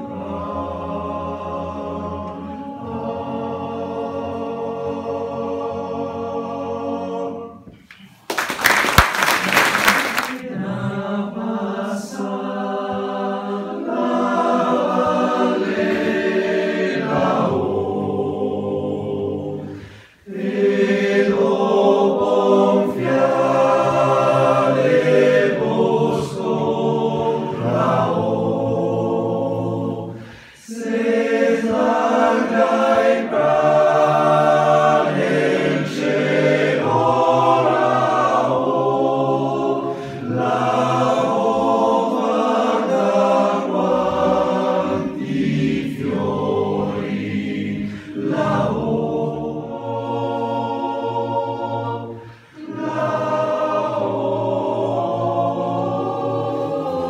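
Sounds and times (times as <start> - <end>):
male choir singing a cappella: 0.0 - 7.7, 10.4 - 57.0.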